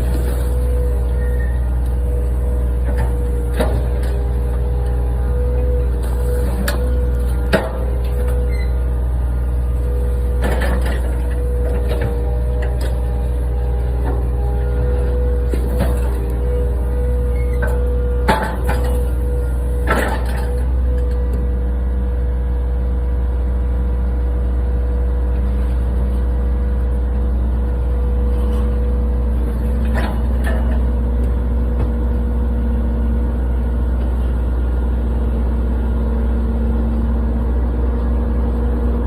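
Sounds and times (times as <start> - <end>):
excavator engine running under load: 0.0 - 39.0.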